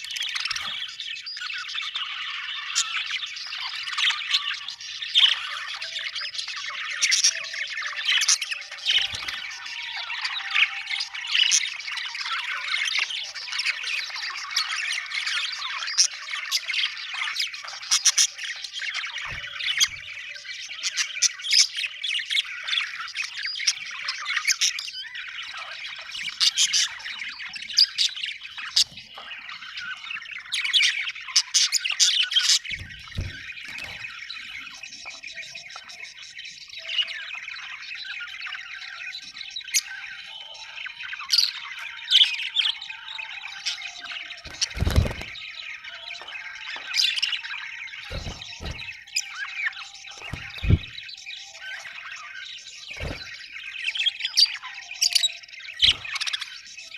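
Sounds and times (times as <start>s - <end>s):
budgerigars chattering: 0.0s - 56.9s.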